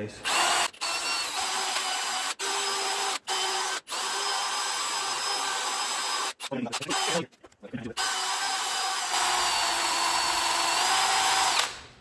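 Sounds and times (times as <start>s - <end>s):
handheld power tool running: 0.2s - 7.2s, 8.0s - 11.8s.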